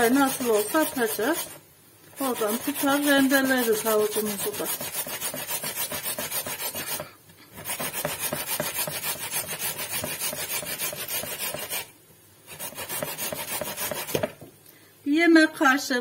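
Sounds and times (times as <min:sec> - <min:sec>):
carrot grated on metal grater: 0:00.0 - 0:01.6, 0:02.2 - 0:11.9, 0:12.5 - 0:14.4.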